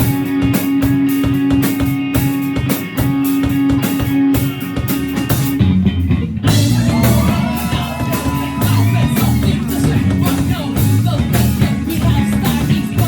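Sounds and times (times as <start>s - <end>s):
bass guitar: 0.0s - 13.0s
drum kit beat: 0.0s - 13.0s
electric guitars: 0.0s - 13.0s.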